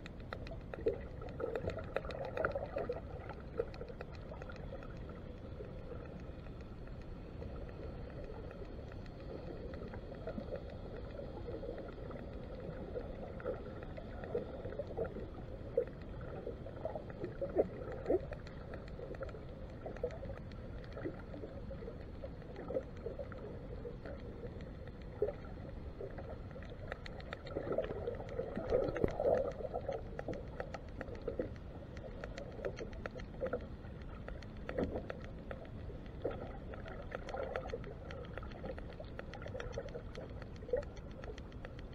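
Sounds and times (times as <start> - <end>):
faint steady tones: 0.0 - 41.9
low underwater hum: 0.0 - 41.9.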